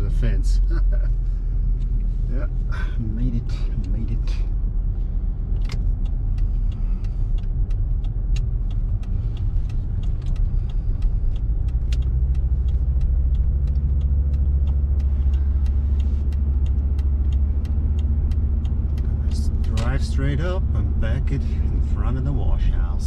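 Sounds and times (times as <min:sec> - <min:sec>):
engine and road rumble: 0:00.0 - 0:23.0
light clicks and rattles: 0:01.0 - 0:23.0.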